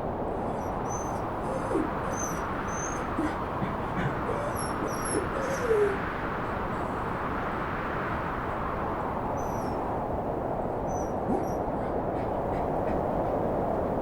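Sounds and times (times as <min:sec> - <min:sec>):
howling wind: 0:00.0 - 0:14.0.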